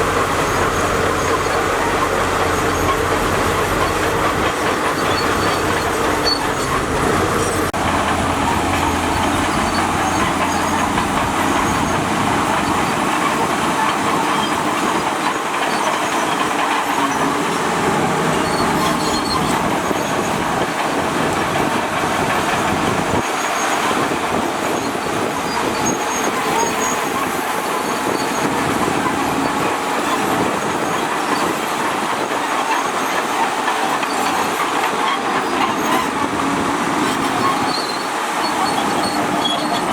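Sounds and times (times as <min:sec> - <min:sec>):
bulldozer diesel engine under load: 0:00.0 - 0:39.9
steel tracks clanking and squealing: 0:00.0 - 0:39.9.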